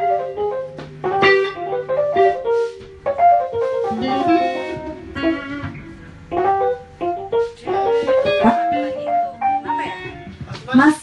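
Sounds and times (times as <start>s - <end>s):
guitar plucked chords: 0.0s - 10.6s.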